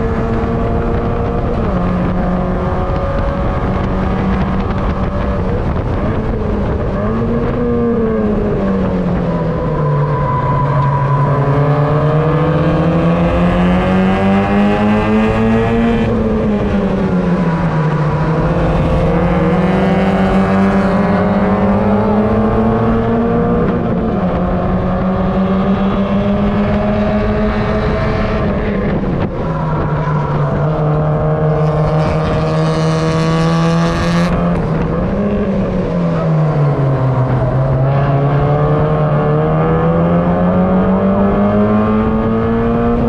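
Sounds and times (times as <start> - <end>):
race car engine revving: 0.0 - 43.0.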